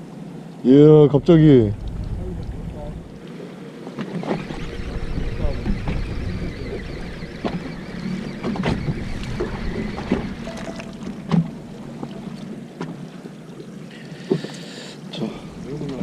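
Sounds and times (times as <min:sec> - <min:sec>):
boat engine humming: 0:00.7 - 0:16.0.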